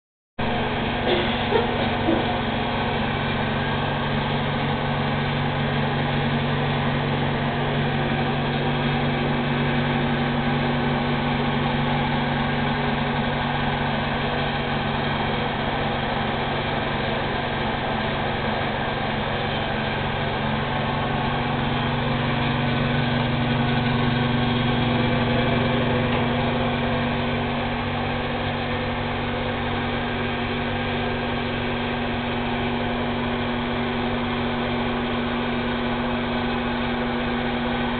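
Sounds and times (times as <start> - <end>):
mechanical hum: 0.4 - 37.9.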